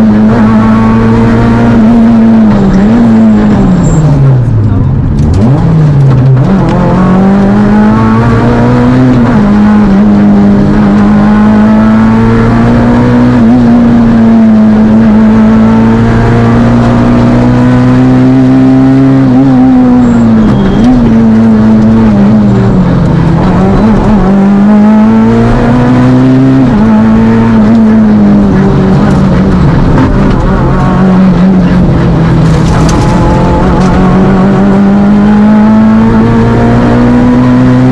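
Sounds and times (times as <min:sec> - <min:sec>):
rally car engine at high revs: 0:00.0 - 0:37.9.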